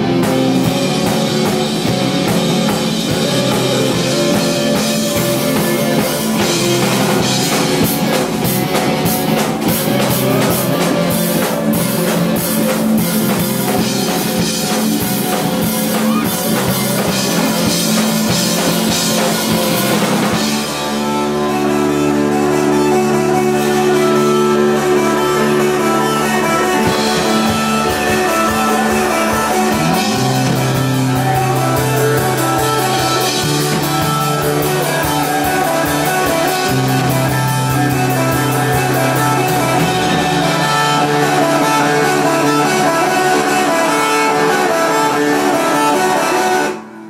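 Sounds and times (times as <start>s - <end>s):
held bass notes: 0.0s - 47.0s
live rock band playing: 0.0s - 47.0s.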